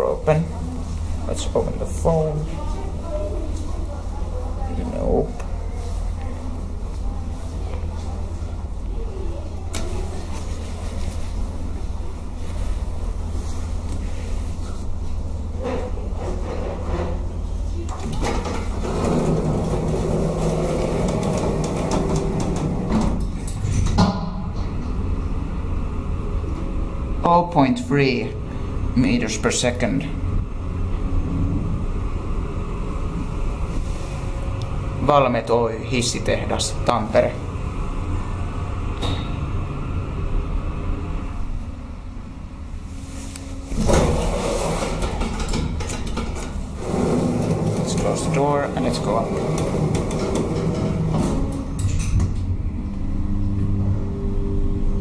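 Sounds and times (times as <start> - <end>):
lift car rumbling and rattling: 0.0 - 55.0.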